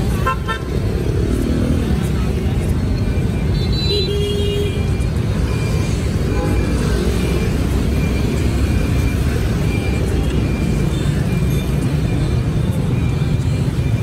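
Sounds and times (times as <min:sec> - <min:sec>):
heavy street traffic: 0:00.0 - 0:14.0.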